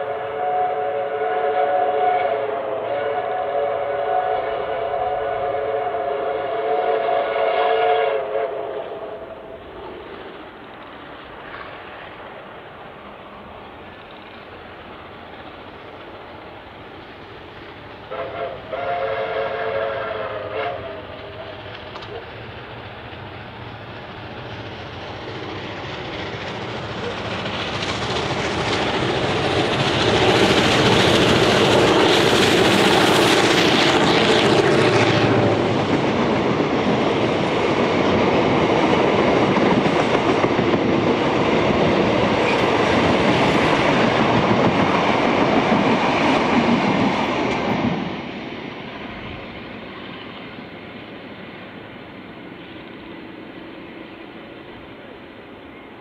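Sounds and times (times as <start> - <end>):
steam locomotive passing: 0.0 - 56.0
train carriages rolling past: 0.0 - 56.0.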